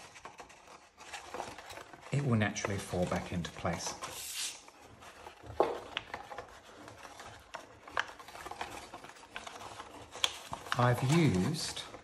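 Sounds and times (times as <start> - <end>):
folded paper rustling and crinkling: 0.0 - 12.0.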